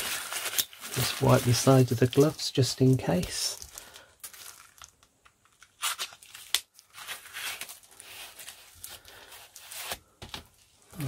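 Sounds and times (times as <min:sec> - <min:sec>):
plastic packaging crinkling and tearing: 0:00.0 - 0:10.0.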